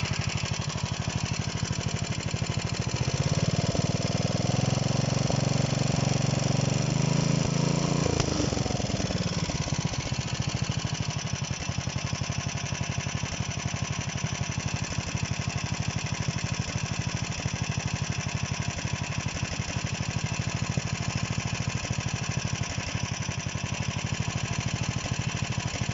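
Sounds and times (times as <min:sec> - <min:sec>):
engine running and idling: 0:00.0 - 0:25.9.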